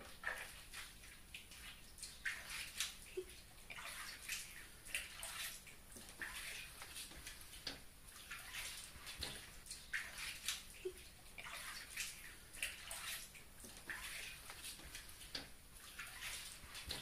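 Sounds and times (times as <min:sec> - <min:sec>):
water splashing in a plastic tub: 0:00.0 - 0:17.0.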